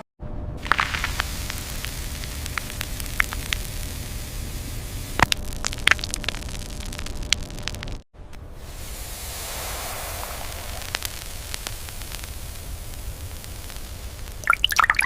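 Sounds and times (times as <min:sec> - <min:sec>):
low machinery rumble: 0:00.2 - 0:14.4.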